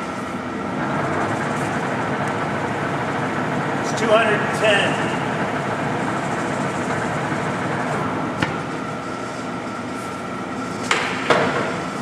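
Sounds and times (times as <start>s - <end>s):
lathe running with mechanical whir: 0.0s - 12.0s
thin steady whine: 0.0s - 12.0s.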